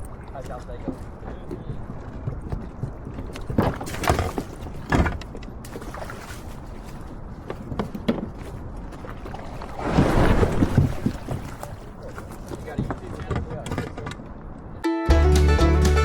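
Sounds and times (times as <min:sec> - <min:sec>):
water splashing: 0:00.0 - 0:13.2.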